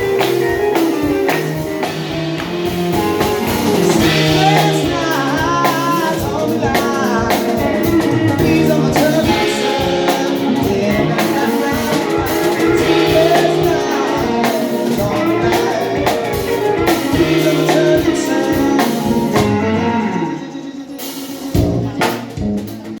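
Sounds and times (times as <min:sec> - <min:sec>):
blues-rock band playing: 0:00.0 - 0:23.0
drum kit beat: 0:00.0 - 0:23.0
person singing: 0:00.0 - 0:23.0.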